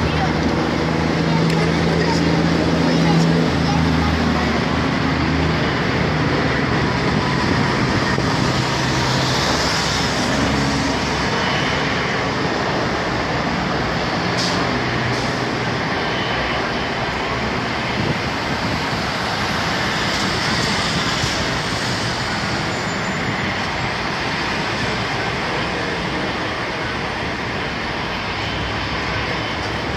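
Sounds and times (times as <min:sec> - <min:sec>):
heavy road traffic roar: 0:00.0 - 0:29.9.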